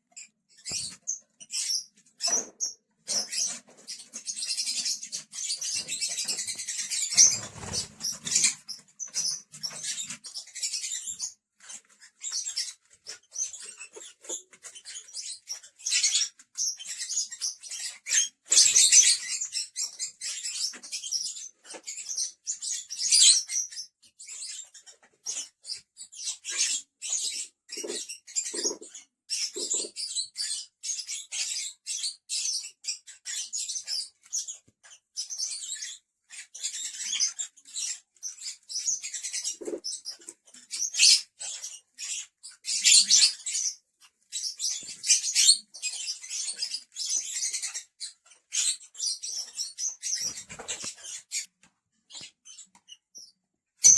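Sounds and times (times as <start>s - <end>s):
lovebirds chirping and squeaking: 0.0s - 53.9s.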